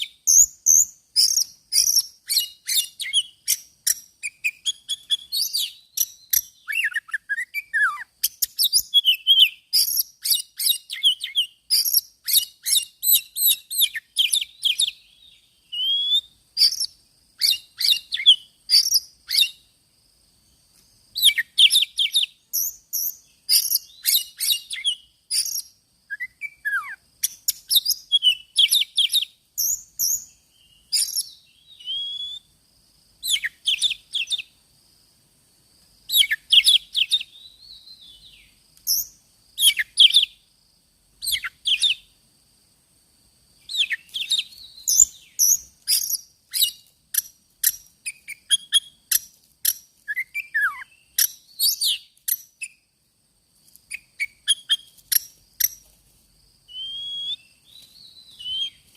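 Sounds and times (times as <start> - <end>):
bird chirps and whistles: 0.0 - 19.6, 21.2 - 32.5, 33.2 - 34.5, 36.1 - 40.4, 41.2 - 42.1, 43.7 - 52.8, 53.9 - 55.8, 56.7 - 58.8.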